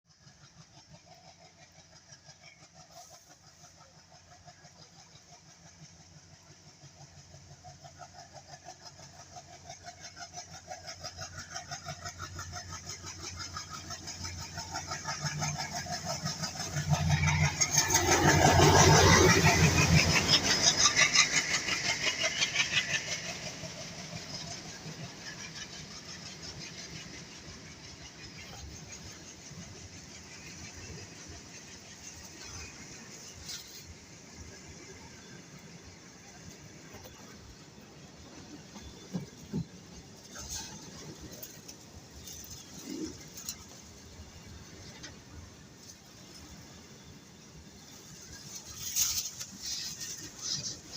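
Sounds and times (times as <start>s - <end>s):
diesel locomotive engine pulsing: 0.1s - 50.9s.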